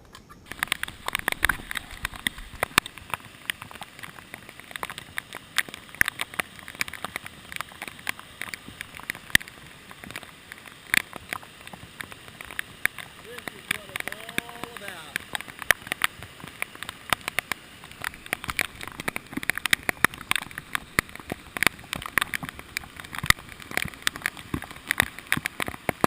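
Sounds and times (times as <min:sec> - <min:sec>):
raindrops ticking near microphone: 0:00.0 - 0:26.0
heavy rain hiss: 0:00.5 - 0:26.0.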